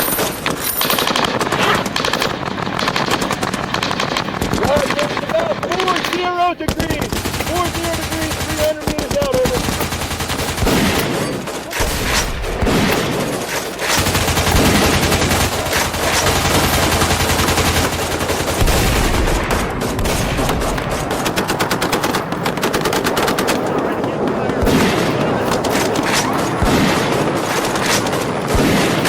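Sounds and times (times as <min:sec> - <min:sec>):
rapid blaster shots: 0:00.0 - 0:29.0.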